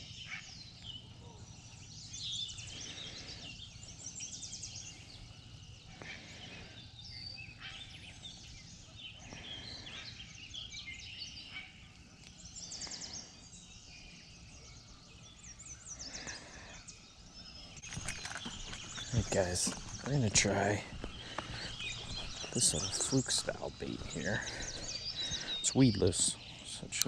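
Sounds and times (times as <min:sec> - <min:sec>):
birds singing and chirping: 0:00.0 - 0:27.0
low outdoor rumble: 0:00.1 - 0:27.0.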